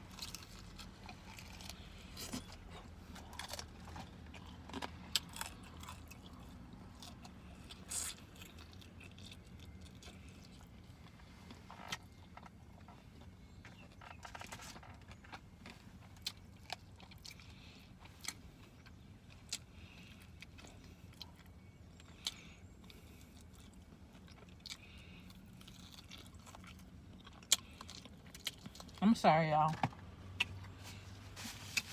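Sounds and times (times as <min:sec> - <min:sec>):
person chewing and crunching: 0:00.0 - 0:29.0
faint low hum: 0:00.0 - 0:31.9.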